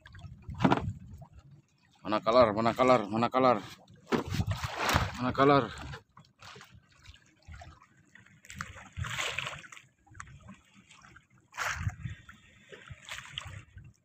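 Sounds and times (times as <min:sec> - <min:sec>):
water slapping boat hull: 0:00.0 - 0:14.0
water splashes: 0:00.0 - 0:14.0.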